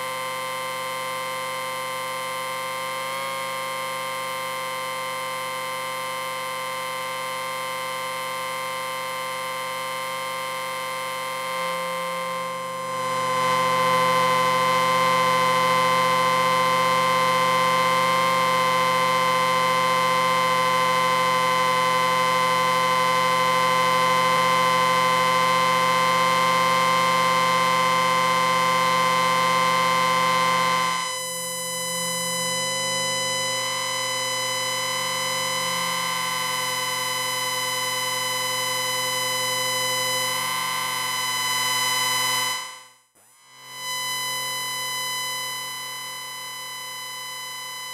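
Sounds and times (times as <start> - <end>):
amplifier ringing whine: 0.0 - 47.9.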